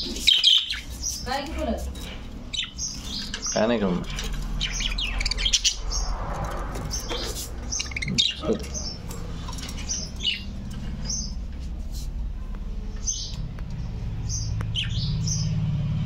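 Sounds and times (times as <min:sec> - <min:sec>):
budgerigars chirping and chattering: 0:00.0 - 0:11.5, 0:12.9 - 0:15.6.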